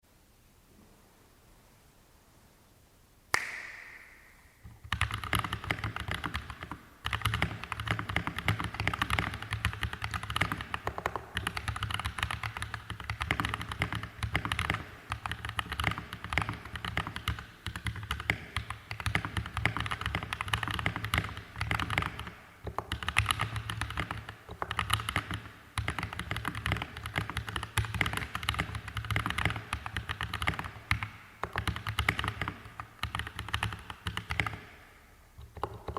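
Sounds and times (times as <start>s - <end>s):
mechanical keyboard typing: 4.8s - 34.6s, 35.4s - 35.9s.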